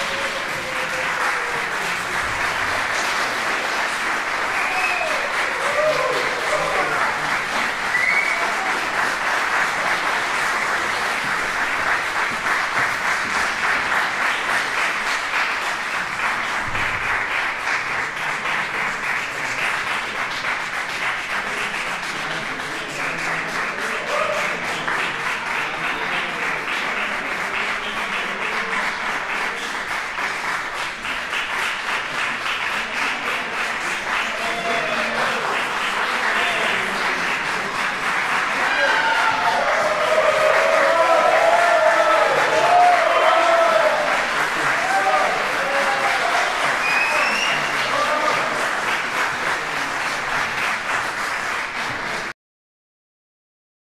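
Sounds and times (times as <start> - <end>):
audience applauding: 0.0 - 52.4.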